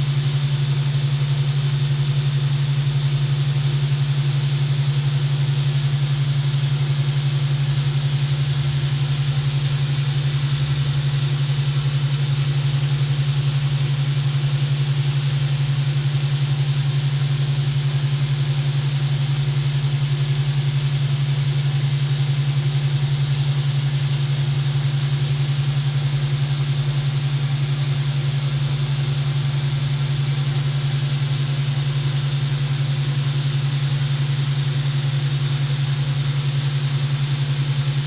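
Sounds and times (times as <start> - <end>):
low hum with pulsing flutter: 0.0 - 38.0.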